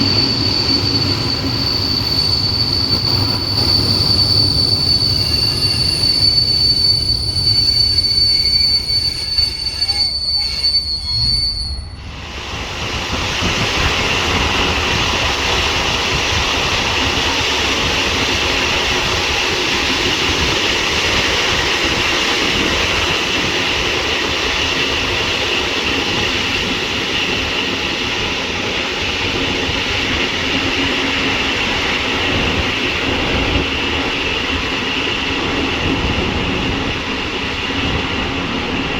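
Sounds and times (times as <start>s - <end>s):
train high whine: 0.0s - 38.9s
train rumbling ride: 0.0s - 38.9s
train running noise with hiss: 0.0s - 38.9s.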